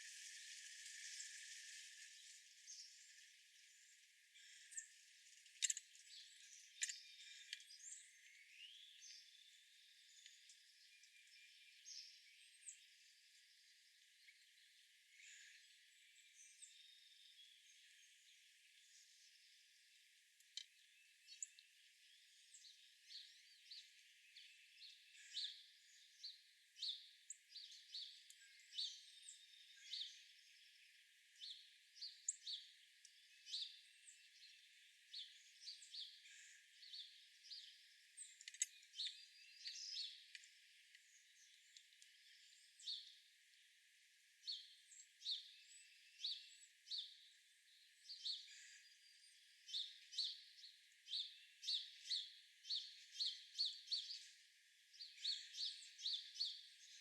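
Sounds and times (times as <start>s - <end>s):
faint outdoor hiss: 0.0s - 57.0s
small birds chirping: 0.0s - 57.0s.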